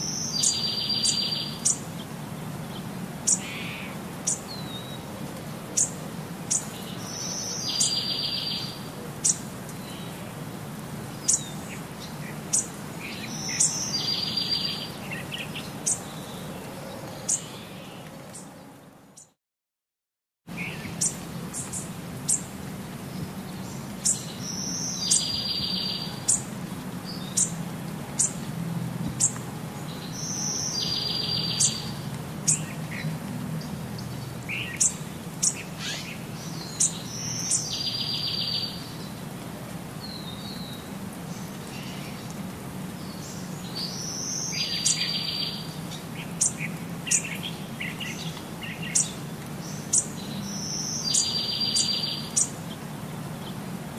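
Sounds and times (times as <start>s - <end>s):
songbird chirping and trilling: 0.0s - 5.1s, 5.8s - 10.3s, 11.1s - 19.4s, 20.5s - 28.5s, 29.1s - 39.2s, 40.0s - 53.6s.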